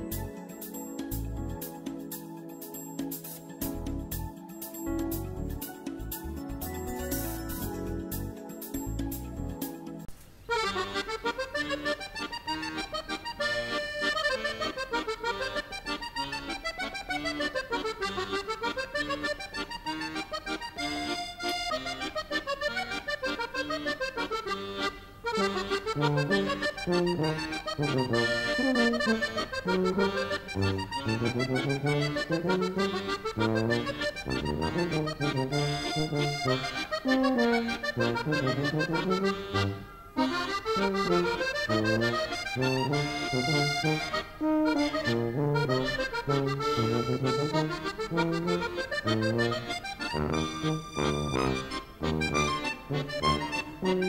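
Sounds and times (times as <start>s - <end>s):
accordion melody: 0.0s - 54.0s.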